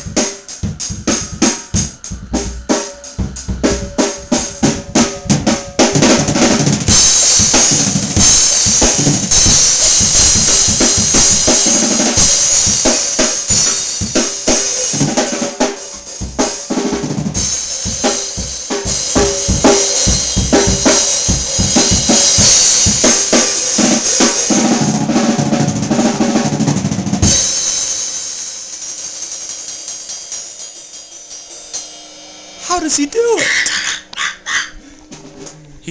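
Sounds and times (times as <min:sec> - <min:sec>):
drum kit played hard and fast: 0:00.0 - 0:34.0.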